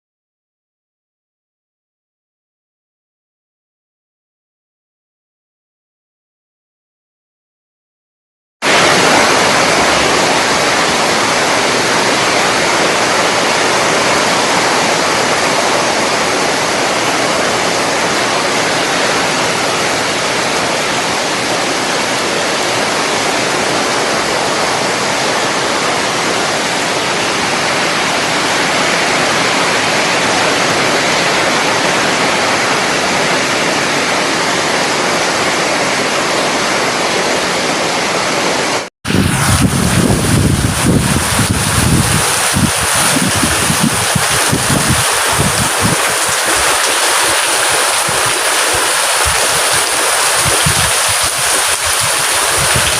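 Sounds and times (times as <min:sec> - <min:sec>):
heavy rain pouring: 0:08.6 - 0:52.9.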